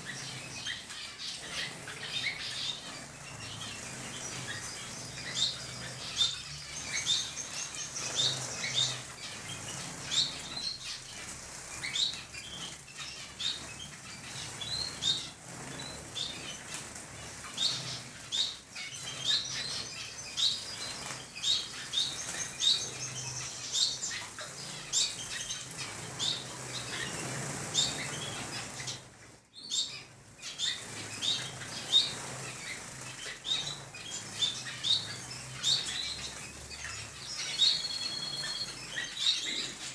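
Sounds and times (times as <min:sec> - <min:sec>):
wings fluttering: 0:00.0 - 0:29.4, 0:30.3 - 0:39.9
small birds chirping: 0:00.0 - 0:39.9.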